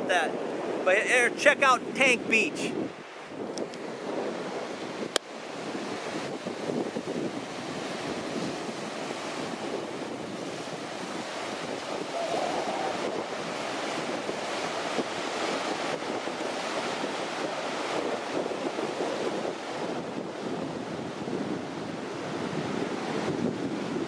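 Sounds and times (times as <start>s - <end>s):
ocean surf washing onto beach: 0.0s - 24.0s
wind blowing across microphone: 0.0s - 24.0s.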